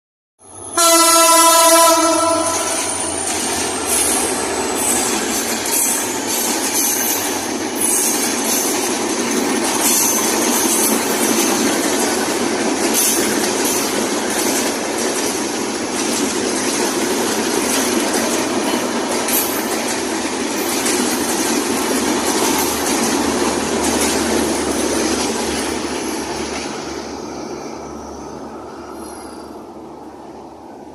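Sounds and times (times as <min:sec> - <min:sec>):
train wheels rumbling on track: 0:00.4 - 0:30.9.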